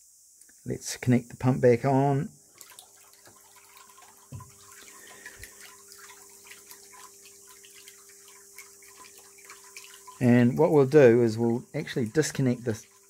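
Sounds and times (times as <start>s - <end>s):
water pump humming: 0.7s - 13.0s
water trickling: 2.0s - 13.0s.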